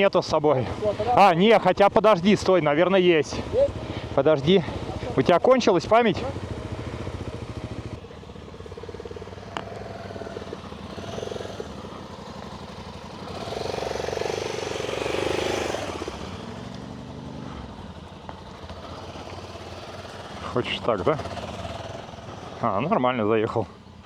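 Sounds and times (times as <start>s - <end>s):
motorcycle engine revving: 0.0s - 24.0s
motorcycle engines idling: 0.0s - 24.0s.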